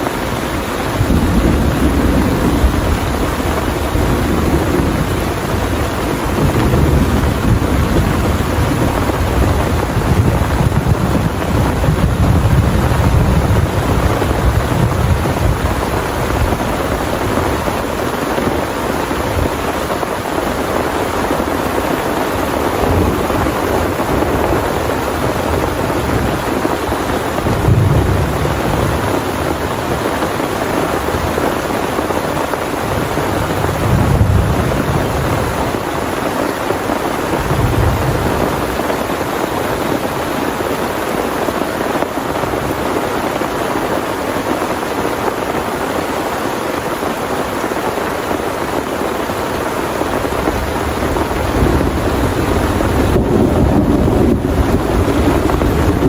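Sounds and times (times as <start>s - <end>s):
heavy rain pouring: 0.0s - 56.0s
thunder rumbling: 0.0s - 56.0s.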